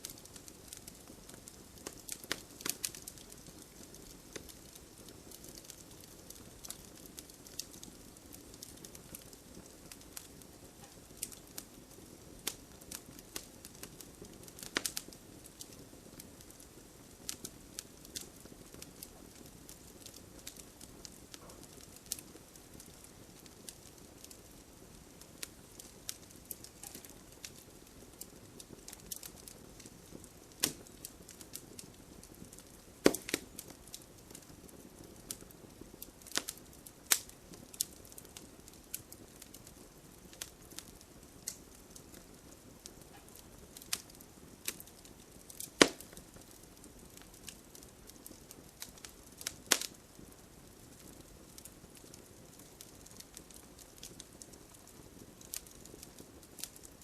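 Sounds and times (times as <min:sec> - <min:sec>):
campfire snapping and popping: 0:00.0 - 0:57.0
faint low hiss: 0:00.0 - 0:57.0.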